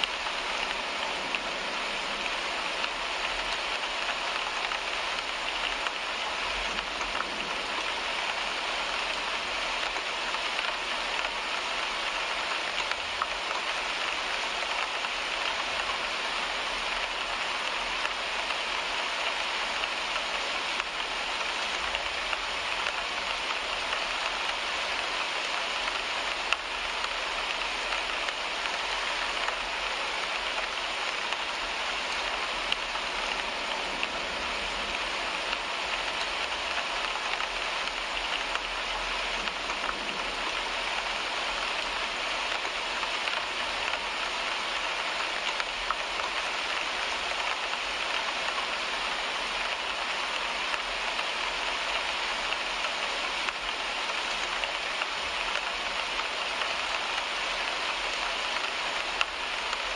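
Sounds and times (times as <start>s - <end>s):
rain on a windshield: 0.0s - 59.9s.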